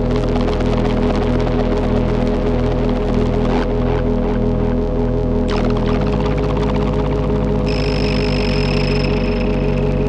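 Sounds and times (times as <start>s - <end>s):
ambient electronic drone music: 0.0s - 10.0s.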